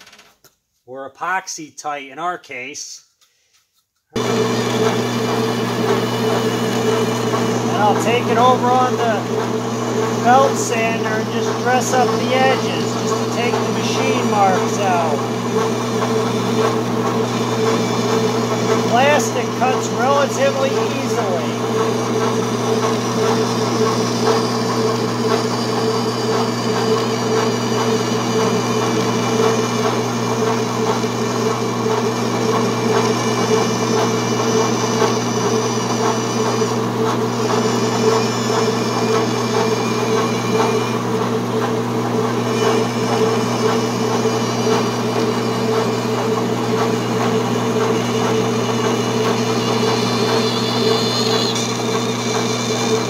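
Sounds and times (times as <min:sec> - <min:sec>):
bandsaw cutting plastic: 0:04.2 - 0:53.0.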